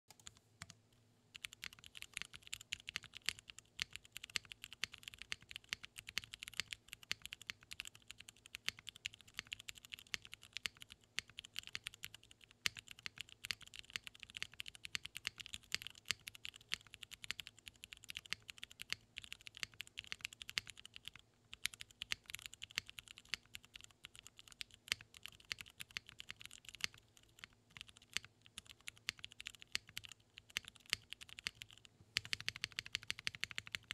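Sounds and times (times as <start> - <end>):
fast mechanical keyboard typing: 0.1 - 33.9.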